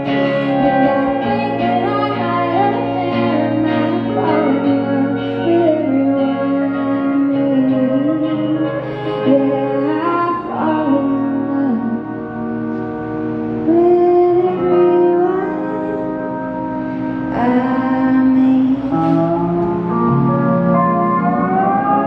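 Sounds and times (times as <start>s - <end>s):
guitar chords: 0.0s - 22.0s
pedal steel guitar sliding notes: 0.0s - 22.0s.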